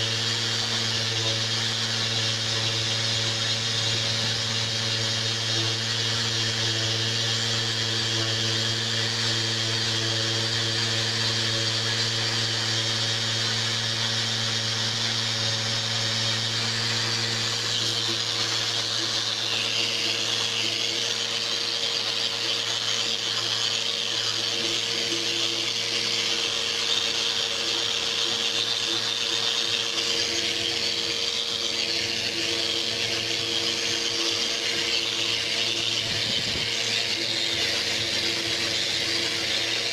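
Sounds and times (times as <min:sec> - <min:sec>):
power sander running: 0:00.0 - 0:39.9.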